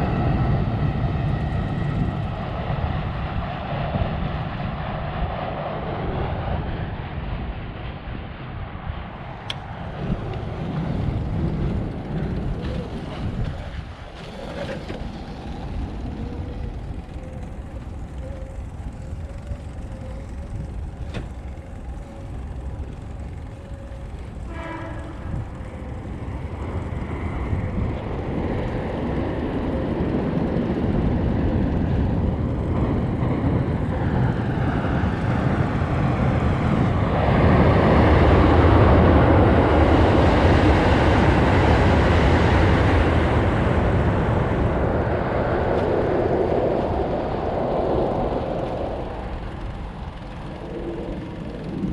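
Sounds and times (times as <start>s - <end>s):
train passing on rails: 0.0s - 51.9s.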